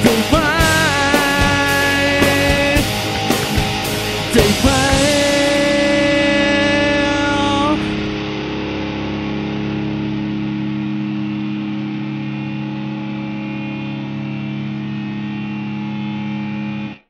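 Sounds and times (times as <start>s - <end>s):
distorted electric guitar chord: 0.0s - 17.0s.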